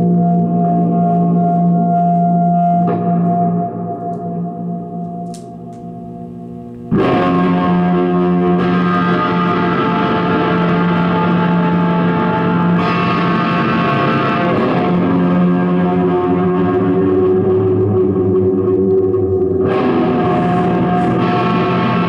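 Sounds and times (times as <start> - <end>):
noise music drone: 0.0 - 22.0.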